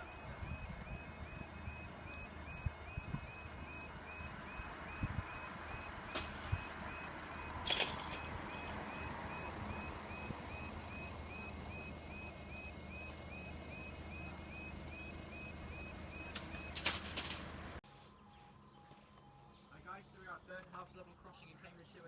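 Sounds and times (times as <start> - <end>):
level crossing warning alarm: 0.0 - 17.7.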